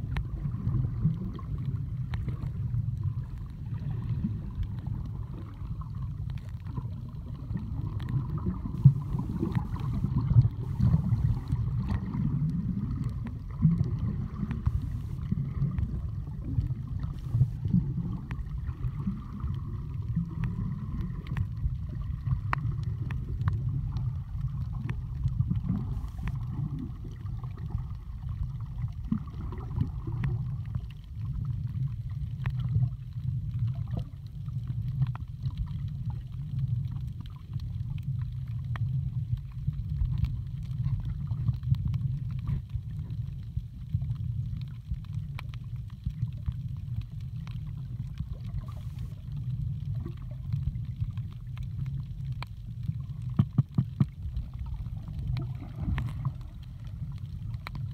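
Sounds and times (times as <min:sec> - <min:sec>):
muffled underwater rumble: 0:00.0 - 0:57.9.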